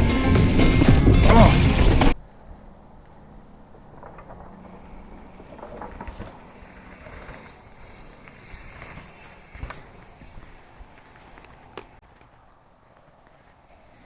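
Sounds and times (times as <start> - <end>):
bike tyres on dirt rattling: 0.0 - 14.0.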